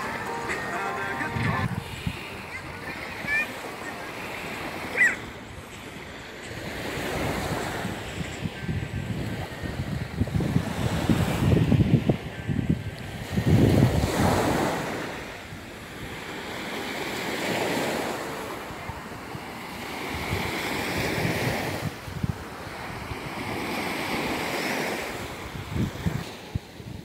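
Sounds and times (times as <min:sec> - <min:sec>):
wind buffeting microphone: 0:01.3 - 0:16.3, 0:18.7 - 0:24.4, 0:25.1 - 0:27.0.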